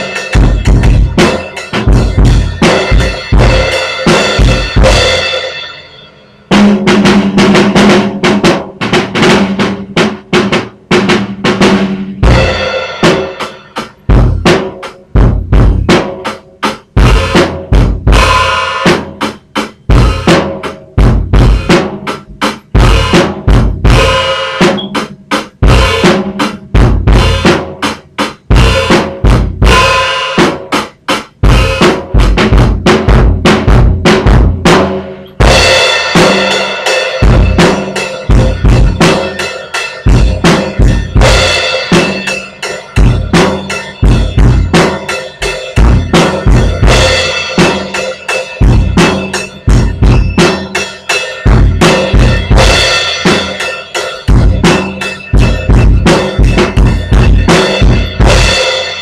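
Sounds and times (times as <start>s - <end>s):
drum and cymbal hits: 0.0s - 59.0s.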